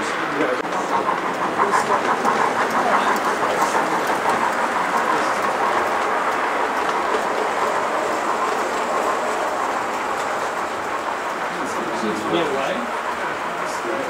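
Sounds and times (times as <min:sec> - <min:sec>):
model train wheels rumbling on rail: 0:00.0 - 0:14.0.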